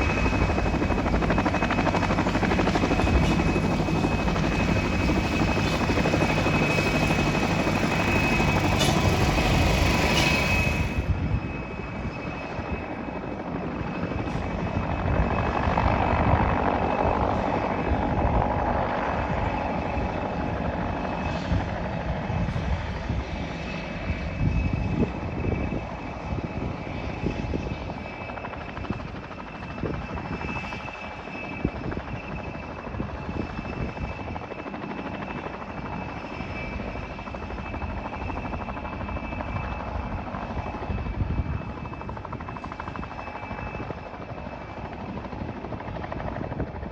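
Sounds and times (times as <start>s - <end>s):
helicopter engine whine: 0.0s - 46.9s
helicopter rotor rumble: 0.0s - 46.9s.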